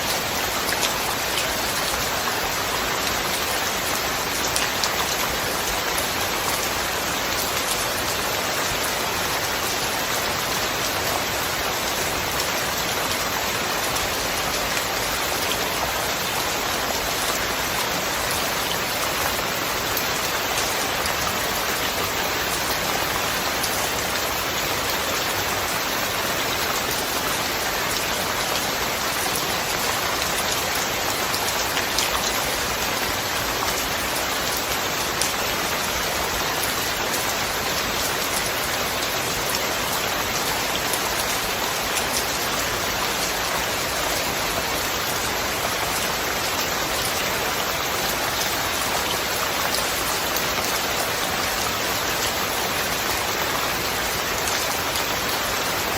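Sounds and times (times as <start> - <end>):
rain pattering on surfaces: 0.0 - 55.9.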